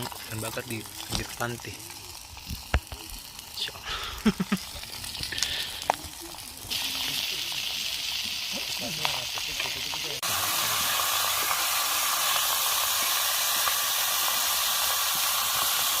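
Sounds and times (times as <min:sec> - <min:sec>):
fish sizzling: 0:00.0 - 0:16.0.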